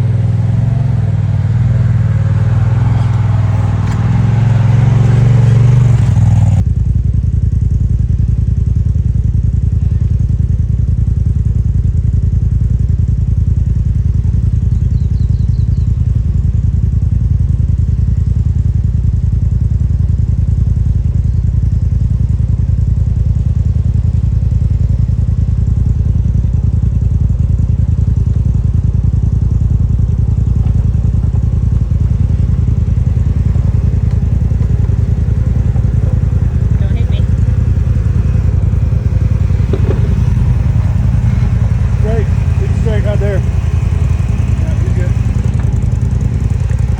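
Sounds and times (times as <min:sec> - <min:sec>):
vehicle engine low drone: 0:00.0 - 0:46.9.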